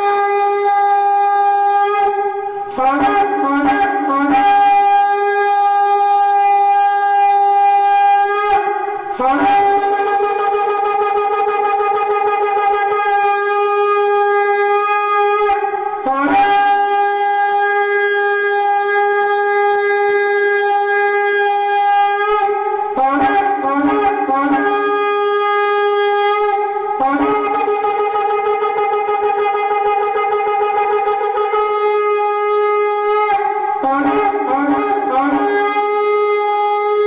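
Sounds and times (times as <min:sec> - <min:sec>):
shofar blasts: 0:00.0 - 0:37.0.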